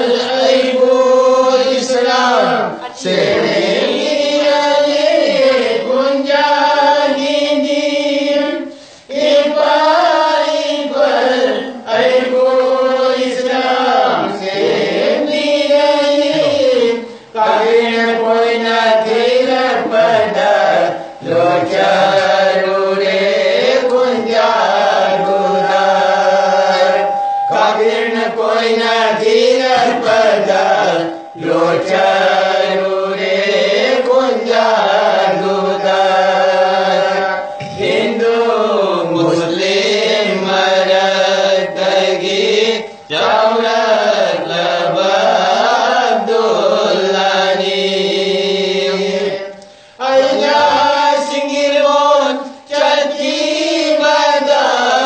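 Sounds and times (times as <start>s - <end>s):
men singing together: 0.0s - 55.0s.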